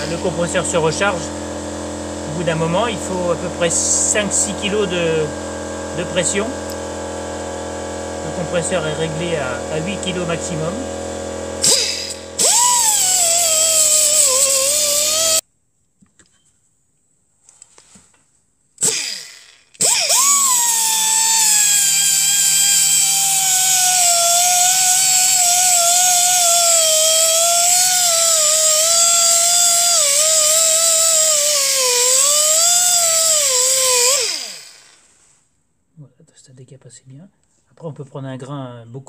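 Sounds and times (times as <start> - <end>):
pneumatic sander whining on metal: 0.0 - 15.4, 18.8 - 35.1.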